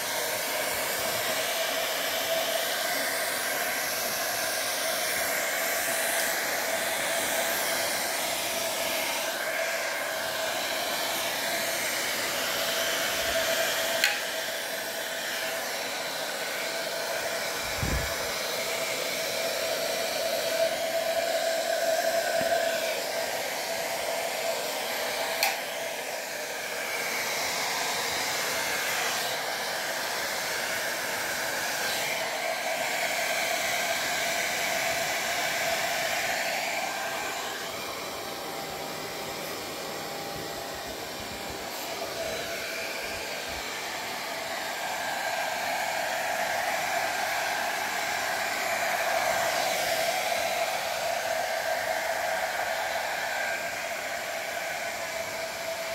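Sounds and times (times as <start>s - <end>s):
hair dryer blowing: 0.0s - 55.9s.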